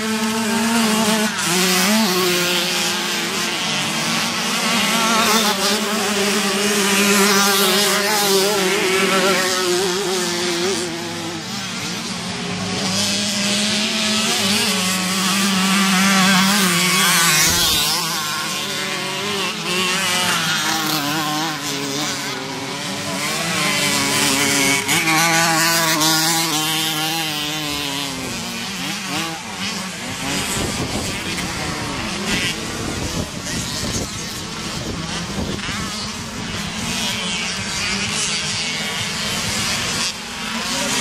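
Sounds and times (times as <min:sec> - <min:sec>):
small motorbike engines buzzing: 0:00.0 - 0:41.0.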